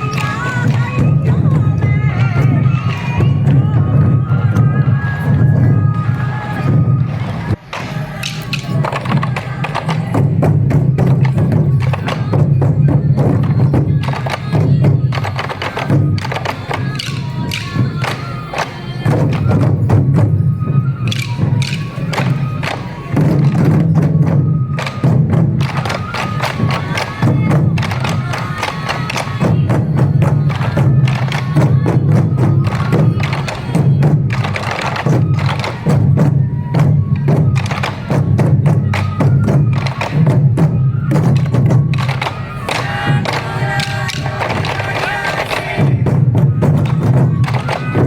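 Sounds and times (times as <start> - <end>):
bamboo flute playing: 0.0 - 48.0
taiko drums beating: 0.0 - 48.0.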